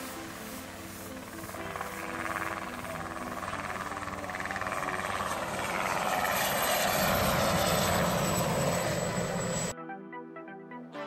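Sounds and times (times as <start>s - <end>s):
helicopter rotor chop and turbine: 0.0s - 9.7s.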